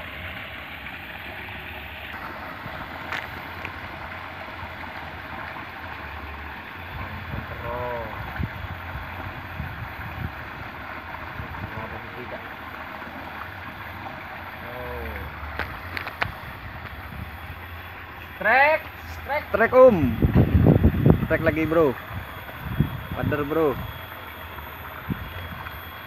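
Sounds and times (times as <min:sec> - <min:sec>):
water rushing over a weir: 0:00.0 - 0:26.0.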